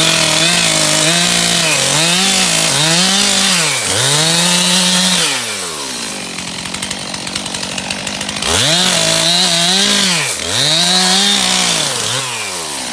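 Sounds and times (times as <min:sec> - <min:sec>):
chainsaw rattling idle: 0:00.0 - 0:12.9
chainsaw revving: 0:00.0 - 0:12.9.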